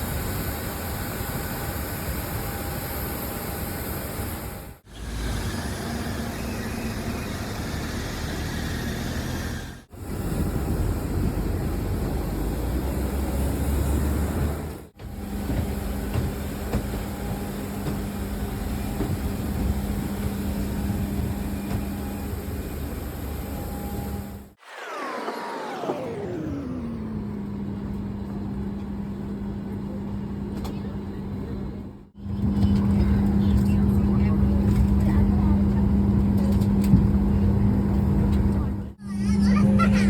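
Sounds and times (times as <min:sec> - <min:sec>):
jet engine cabin rush: 0:00.0 - 0:40.0.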